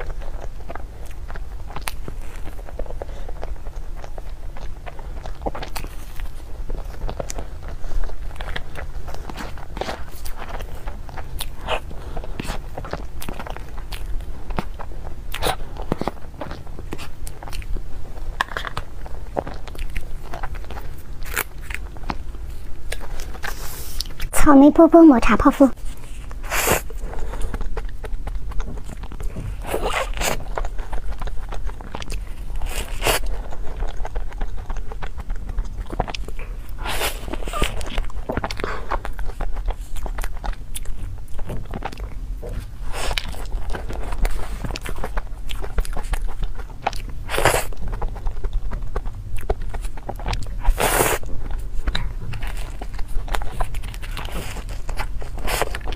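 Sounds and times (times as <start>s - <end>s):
cream puff being chewed: 0.0s - 24.4s, 25.7s - 55.9s.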